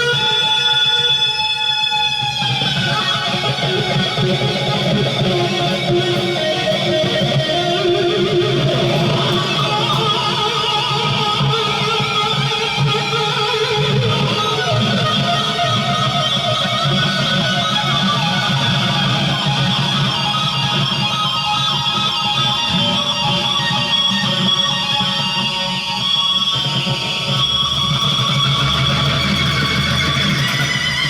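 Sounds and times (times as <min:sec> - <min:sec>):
guitar strumming: 0:00.0 - 0:31.0.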